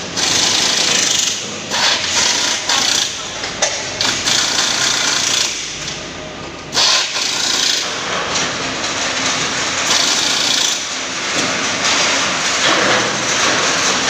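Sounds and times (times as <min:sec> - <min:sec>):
tools and machinery running: 0:00.0 - 0:14.0.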